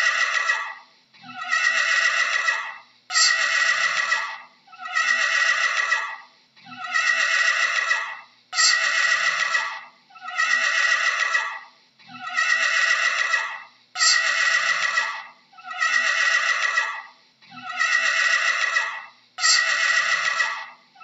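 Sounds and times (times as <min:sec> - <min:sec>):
horse whinnying: 0:00.0 - 0:20.7.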